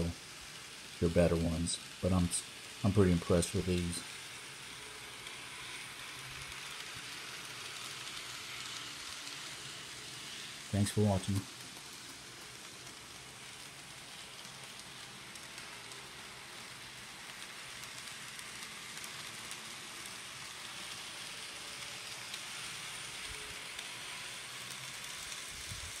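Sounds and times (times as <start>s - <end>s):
model trains rattling on track: 0.0s - 26.0s.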